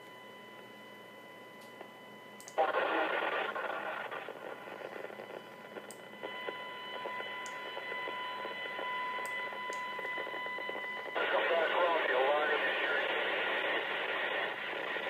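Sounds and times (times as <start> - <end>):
faint high whine: 0.0 - 15.0
radio static hissing: 2.6 - 15.0.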